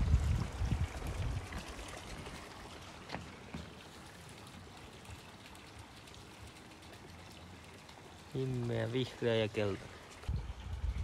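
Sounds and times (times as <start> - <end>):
faint water trickle: 0.0 - 11.0.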